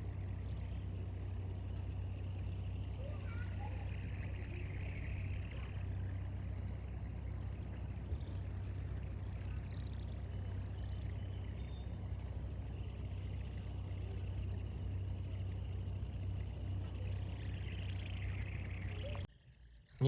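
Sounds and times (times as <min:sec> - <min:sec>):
faint high whine: 0:00.0 - 0:20.0
low background rumble: 0:00.0 - 0:20.0.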